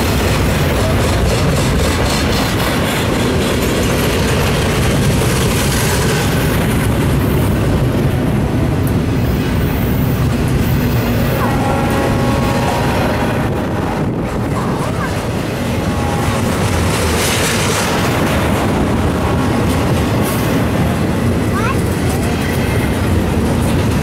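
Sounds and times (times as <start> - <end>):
steel wheels rumbling on rail: 0.0 - 24.0.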